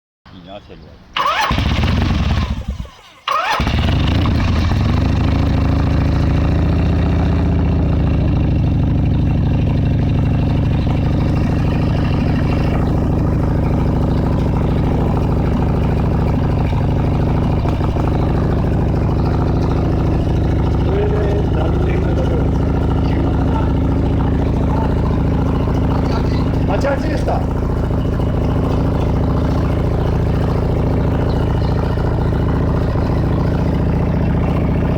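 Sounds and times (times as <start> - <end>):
motorcycle engine starting and idling: 1.1 - 34.9.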